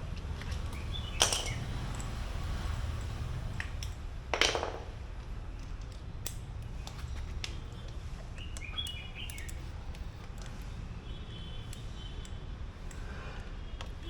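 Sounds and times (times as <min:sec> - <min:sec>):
small metal clicks: 0:00.1 - 0:02.2, 0:03.0 - 0:10.8, 0:11.6 - 0:14.0.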